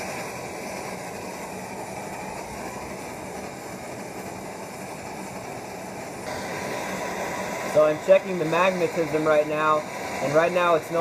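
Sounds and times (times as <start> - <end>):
gas torch flame rushing: 0.0 - 11.0.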